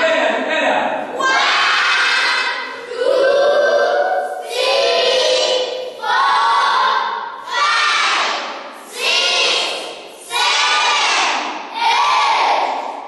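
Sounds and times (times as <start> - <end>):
children singing in unison: 1.0 - 13.0.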